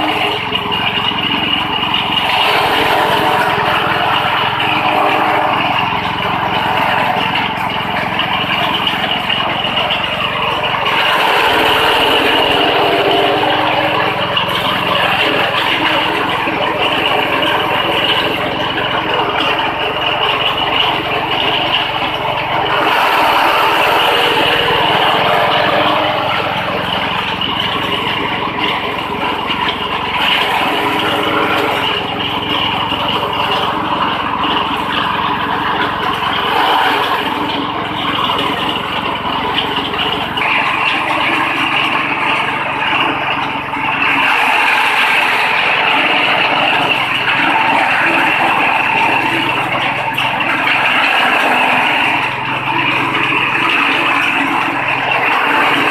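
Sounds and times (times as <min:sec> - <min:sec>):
small petrol engine running: 0:00.0 - 0:55.9.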